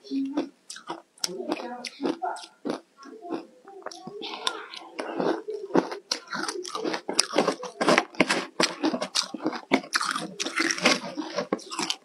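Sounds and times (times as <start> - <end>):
person chewing and crunching ice: 0.4 - 12.0.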